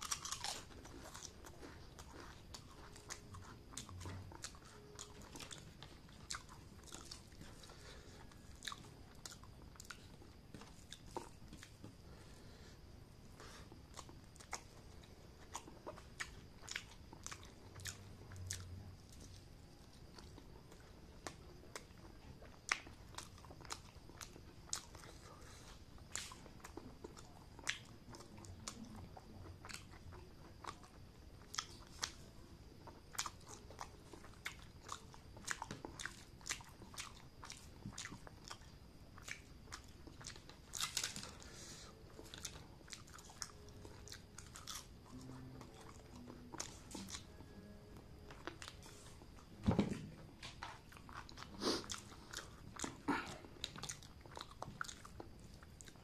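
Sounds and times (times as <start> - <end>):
person chewing with mouth open: 0.0 - 56.0.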